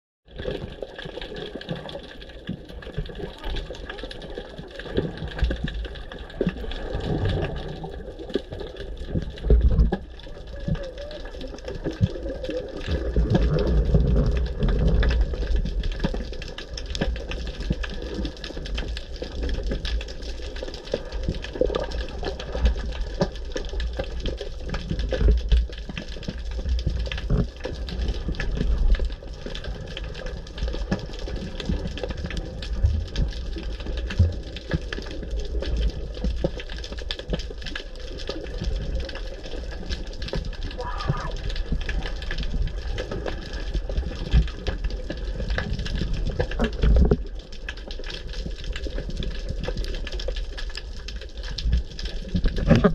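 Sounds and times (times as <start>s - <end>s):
exhaled bubbles: 0.3s - 52.9s
low underwater rumble: 0.3s - 52.9s.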